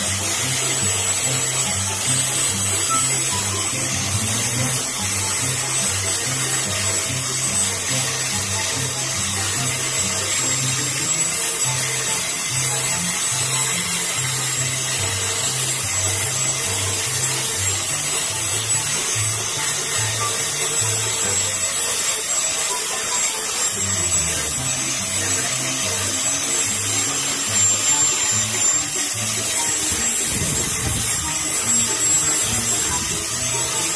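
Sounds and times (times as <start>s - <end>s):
angle grinder sanding wood: 0.0s - 33.9s
background music with bass: 0.0s - 33.9s.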